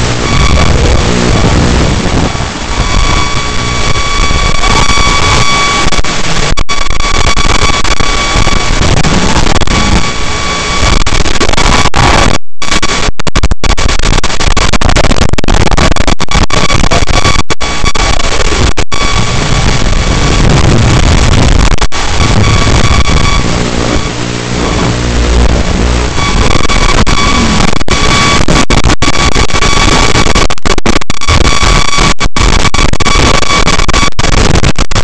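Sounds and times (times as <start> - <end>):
static hiss: 0.0 - 35.0
thin high whine: 0.0 - 35.0.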